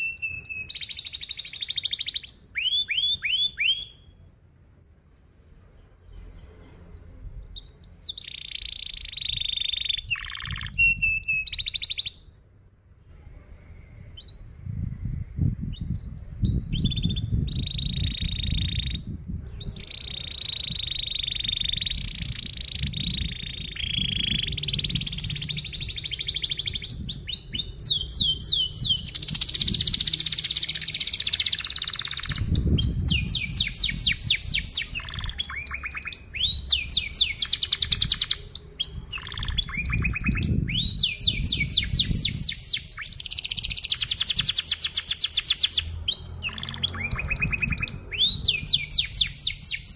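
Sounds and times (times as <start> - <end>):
canary singing: 0.0 - 4.3, 7.4 - 12.4, 15.7 - 49.9.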